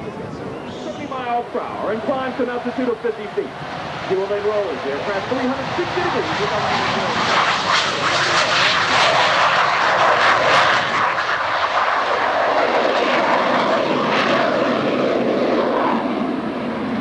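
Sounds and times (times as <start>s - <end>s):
jet taking off with crackles: 0.0s - 17.0s.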